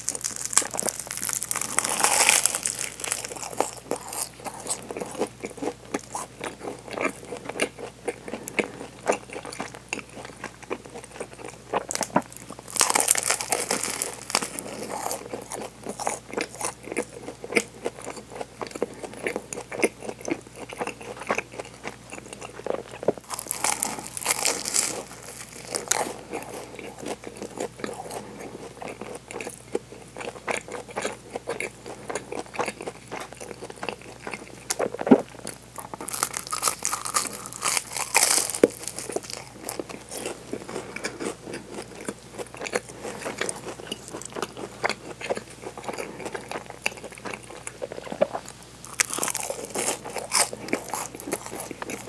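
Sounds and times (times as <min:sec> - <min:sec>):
bread crunching while chewing: 0:00.0 - 0:52.0.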